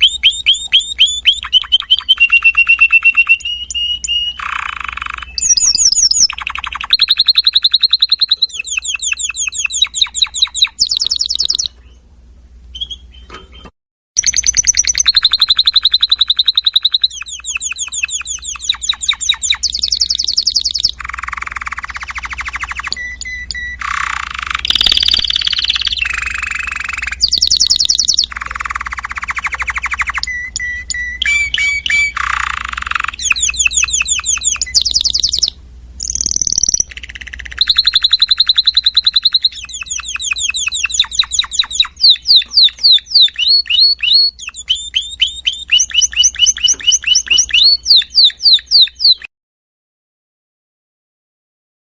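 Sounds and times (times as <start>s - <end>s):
songbird singing trills: 0.0s - 12.0s, 12.7s - 49.3s.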